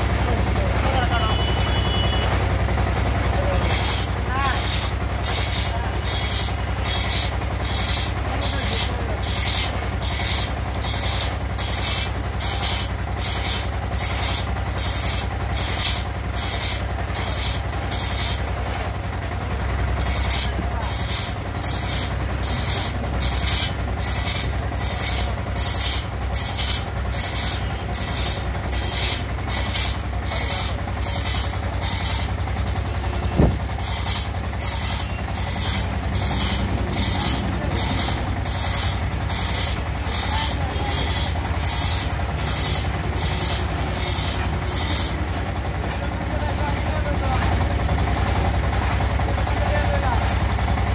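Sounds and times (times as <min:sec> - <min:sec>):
hand saw rasping through wood: 0:03.4 - 0:32.4, 0:33.3 - 0:50.9.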